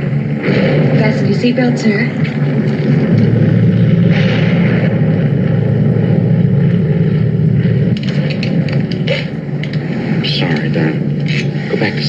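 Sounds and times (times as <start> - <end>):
airliner engine drone in cabin: 0.0 - 12.0.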